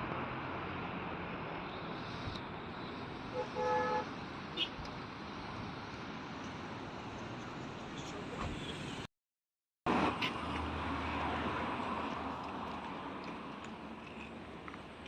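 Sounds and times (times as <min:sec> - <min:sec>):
road traffic hum: 0:00.0 - 0:09.1, 0:09.9 - 0:15.0.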